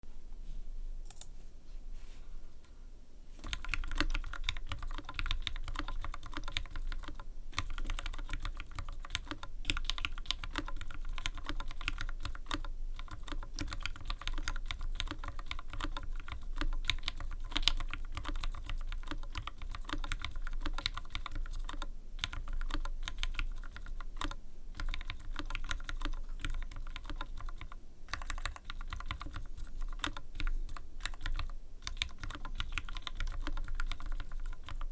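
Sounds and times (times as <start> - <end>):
mechanical keyboard typing: 3.4 - 34.9.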